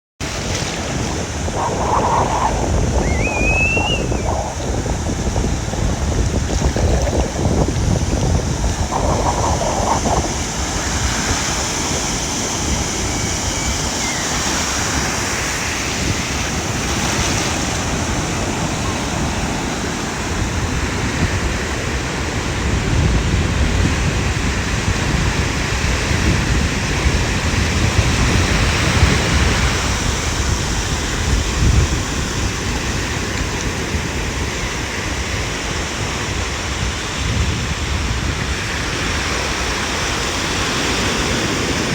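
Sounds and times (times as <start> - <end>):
ocean surf breaking on beach: 0.2 - 41.9
wind buffeting microphone: 0.2 - 41.9.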